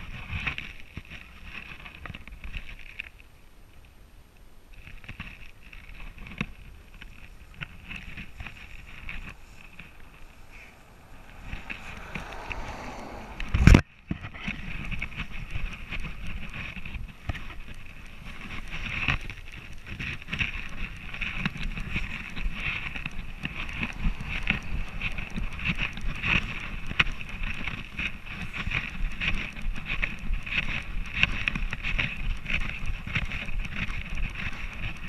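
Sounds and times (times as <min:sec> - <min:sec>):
camera rubbing and knocking: 0:04.8 - 0:35.0.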